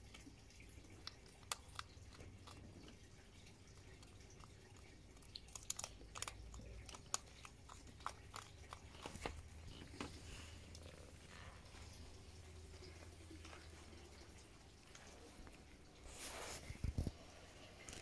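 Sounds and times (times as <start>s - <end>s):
hedgehog chewing food: 0.0s - 18.0s.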